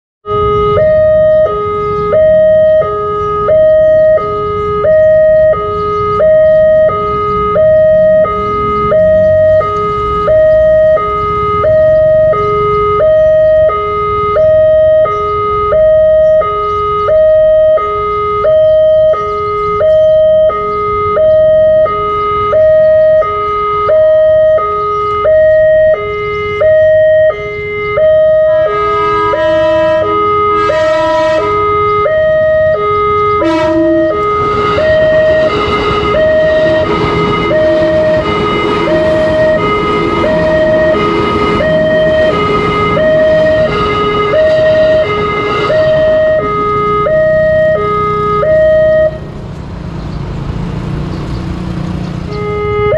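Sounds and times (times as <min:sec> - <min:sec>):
two-tone level crossing alarm: 0:00.2 - 0:49.4, 0:52.1 - 0:52.9
road traffic hum: 0:00.2 - 0:52.9.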